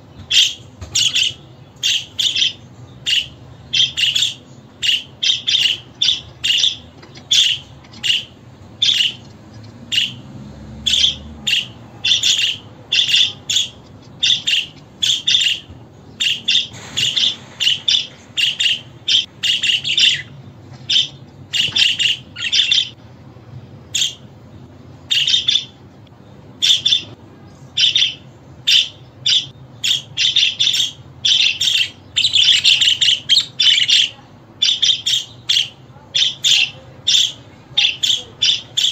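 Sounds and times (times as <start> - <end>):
budgerigars chirping: 0.2 - 10.2, 10.8 - 23.0, 23.9 - 24.2, 25.1 - 25.8, 26.6 - 27.2, 27.8 - 38.9.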